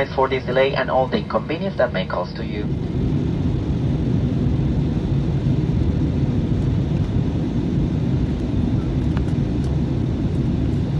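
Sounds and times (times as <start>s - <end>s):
aircraft cabin rumble: 0.0s - 10.9s.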